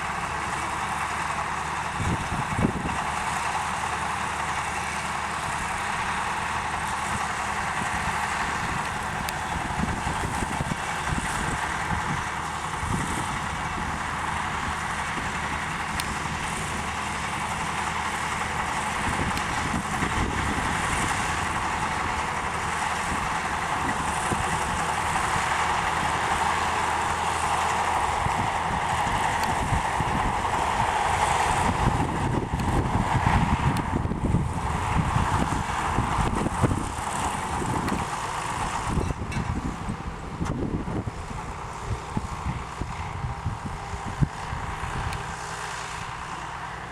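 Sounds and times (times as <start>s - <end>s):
tractor diesel engine running: 0.0s - 46.9s
wind buffeting microphone: 1.1s - 4.6s, 5.3s - 46.9s.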